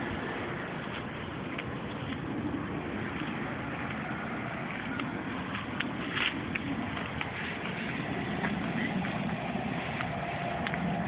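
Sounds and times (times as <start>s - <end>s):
water splashes and ticks: 0.0s - 11.0s.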